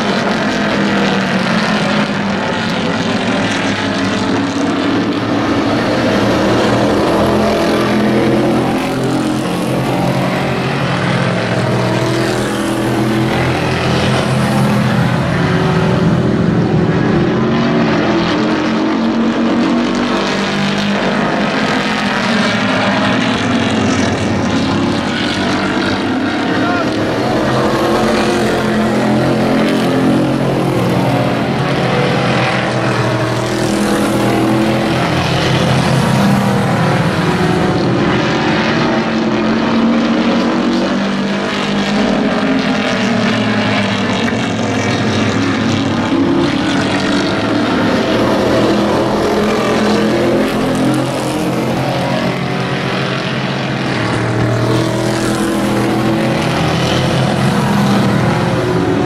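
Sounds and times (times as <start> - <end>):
racing truck engines droning: 0.0 - 59.0.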